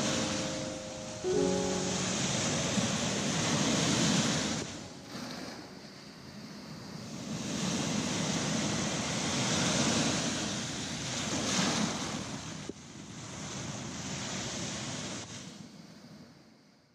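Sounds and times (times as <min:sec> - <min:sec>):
waves washing over rocks: 0:00.0 - 0:15.5.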